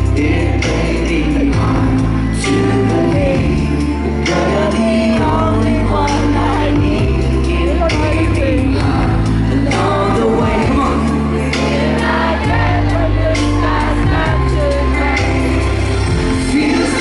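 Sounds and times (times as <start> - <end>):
held bass notes: 0.0 - 17.0
man singing: 0.0 - 17.0
pop band playing live: 0.0 - 17.0.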